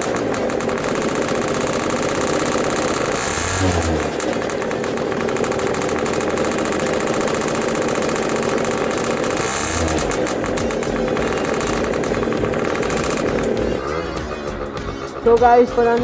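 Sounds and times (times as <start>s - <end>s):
scooter engine running: 0.0s - 16.0s
scooter throttle rev: 0.0s - 16.0s.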